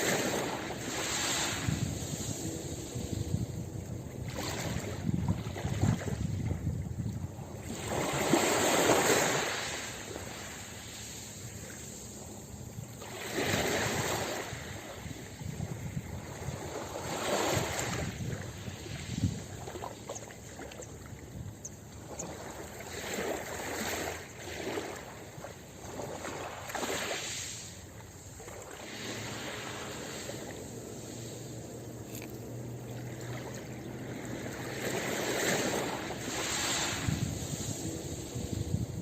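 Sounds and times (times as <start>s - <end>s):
ocean waves breaking on beach: 0.0s - 39.0s.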